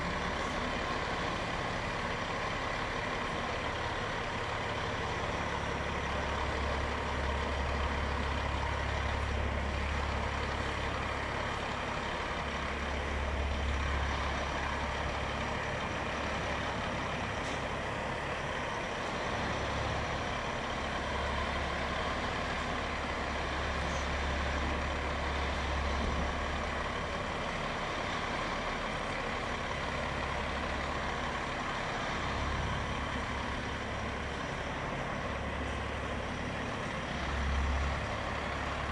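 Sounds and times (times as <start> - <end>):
truck diesel engine rumbling: 0.0 - 38.9.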